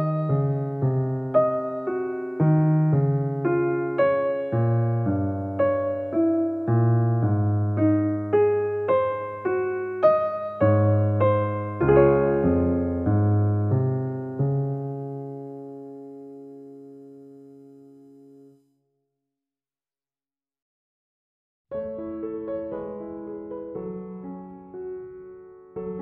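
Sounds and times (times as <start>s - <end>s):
slow piano music: 0.0s - 18.7s, 21.7s - 26.0s.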